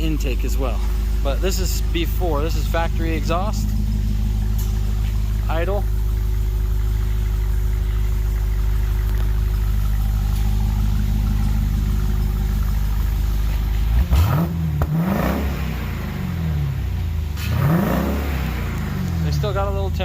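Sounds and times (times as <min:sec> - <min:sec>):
car engine idling: 0:00.0 - 0:20.0
car engine revving: 0:00.0 - 0:20.0.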